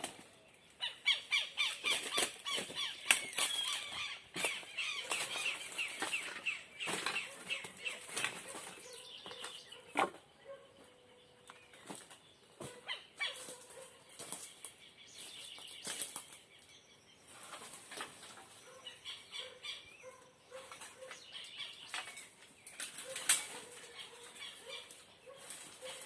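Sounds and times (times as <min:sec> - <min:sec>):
birds chirping faintly: 0:00.0 - 0:26.0
rustles: 0:01.5 - 0:10.3, 0:11.4 - 0:19.6, 0:20.5 - 0:26.0.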